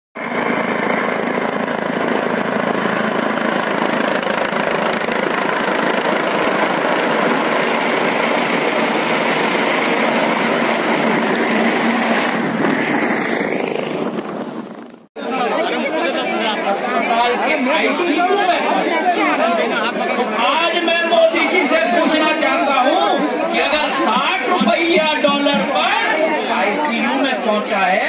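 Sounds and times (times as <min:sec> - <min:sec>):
helicopter rotor and engine: 0:00.2 - 0:28.0.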